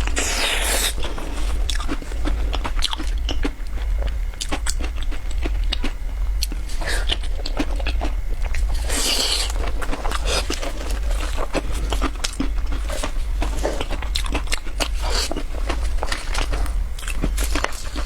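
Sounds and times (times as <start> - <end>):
biscuit crunching and chewing: 0.0 - 18.0
steady low hum: 0.0 - 18.0.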